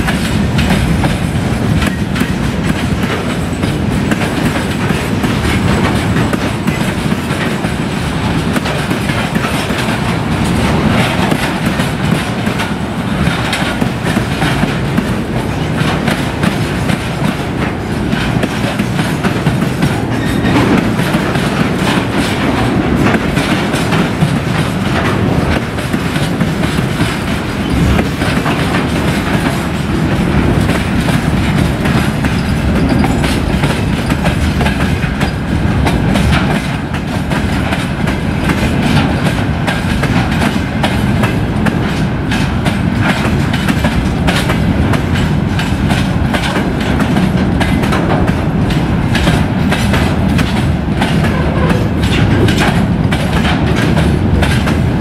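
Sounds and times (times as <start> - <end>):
freight train rumbling past: 0.0 - 55.0
wheels clattering over rail joints: 0.0 - 55.0.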